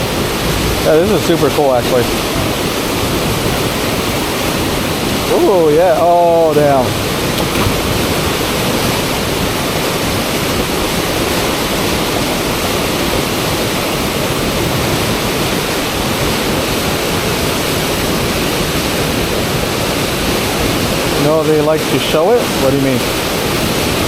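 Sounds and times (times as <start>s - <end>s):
rushing river water: 0.0s - 24.0s.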